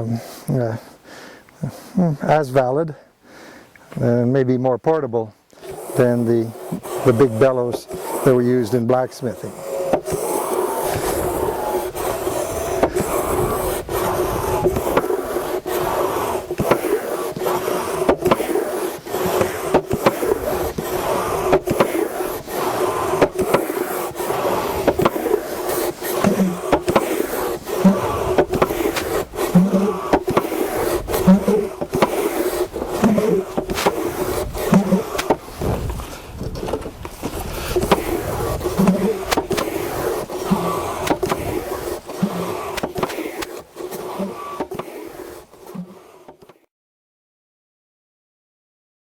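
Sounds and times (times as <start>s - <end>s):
wooden bellows piston rubbing: 5.5s - 46.6s.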